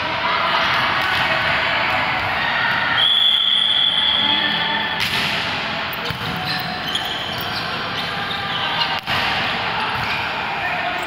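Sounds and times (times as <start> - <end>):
indoor sports hall ambience: 0.0 - 11.0.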